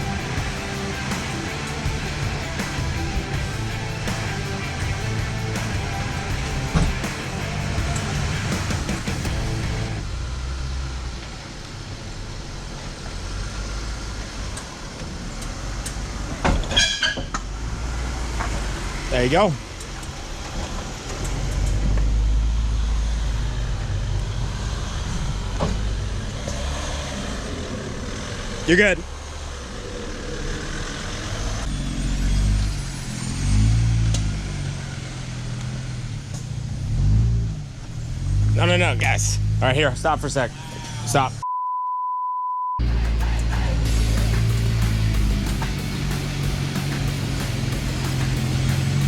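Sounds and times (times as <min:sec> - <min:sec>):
off-road vehicle engine running: 0:00.0 - 0:16.4, 0:17.4 - 0:41.4, 0:42.8 - 0:49.0.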